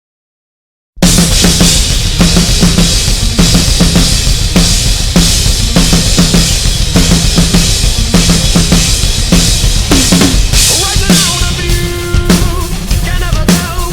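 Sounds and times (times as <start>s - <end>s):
band backing track: 1.0s - 13.9s
kick drum and snare beat: 1.0s - 13.9s.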